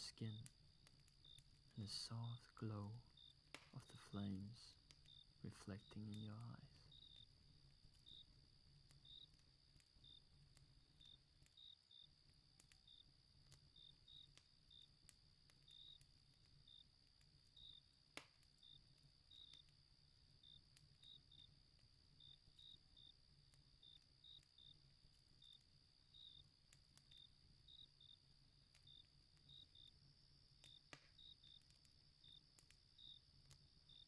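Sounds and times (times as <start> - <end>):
campfire crackling: 0.0 - 34.0
crickets chirping: 0.0 - 34.0.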